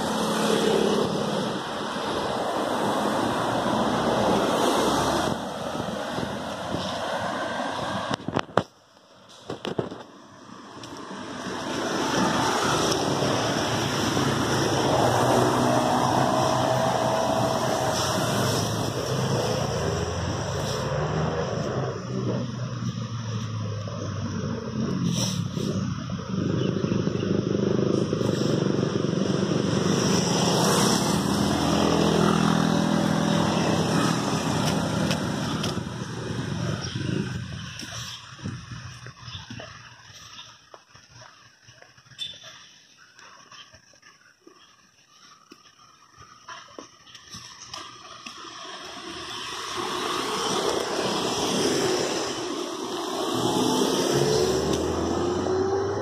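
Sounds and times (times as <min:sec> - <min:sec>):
motorcycle passing: 0:00.0 - 0:08.4, 0:10.4 - 0:42.7, 0:43.6 - 0:56.0
car passing: 0:00.0 - 0:43.4, 0:45.1 - 0:56.0.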